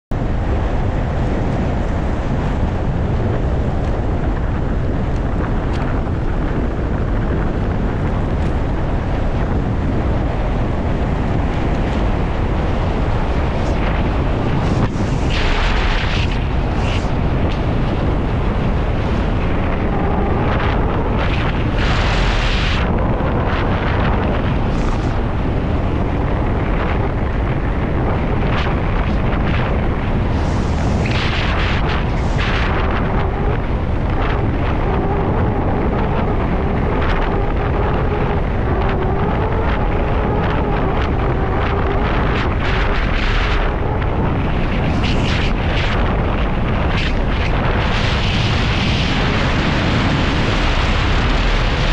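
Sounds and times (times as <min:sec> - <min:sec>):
steady rushing roar: 0:00.1 - 0:51.9.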